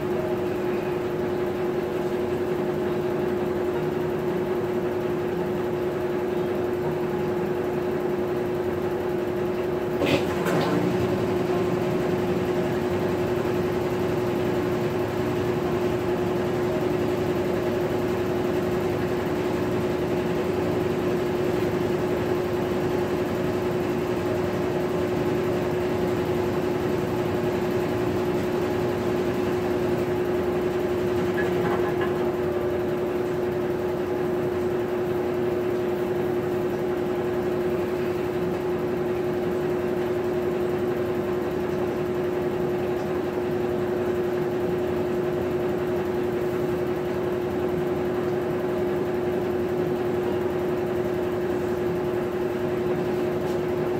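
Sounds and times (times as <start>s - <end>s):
washing machine motor hum: 0.0s - 53.9s.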